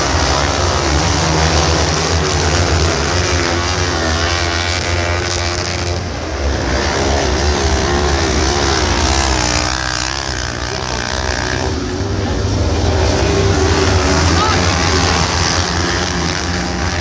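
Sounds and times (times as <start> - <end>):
buggy engines racing: 0.0 - 17.0.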